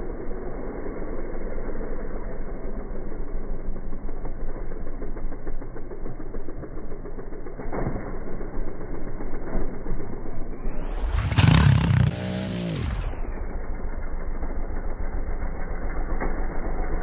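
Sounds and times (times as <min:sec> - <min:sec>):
dirt bike engine passing: 0:00.2 - 0:17.0.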